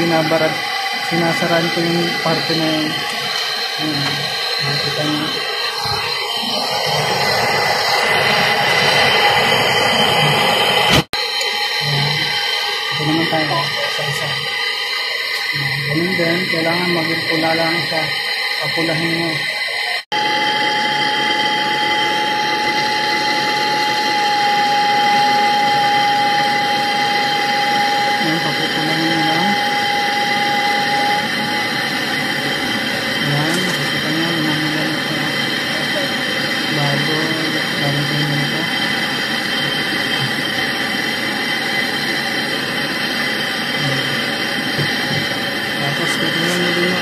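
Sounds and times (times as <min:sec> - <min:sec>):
gas torch hissing: 0:00.0 - 0:47.0.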